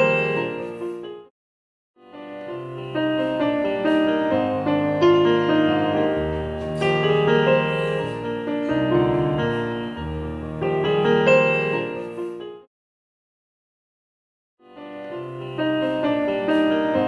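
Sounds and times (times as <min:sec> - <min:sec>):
piano music: 0:00.0 - 0:01.3, 0:02.0 - 0:12.7, 0:14.6 - 0:17.0.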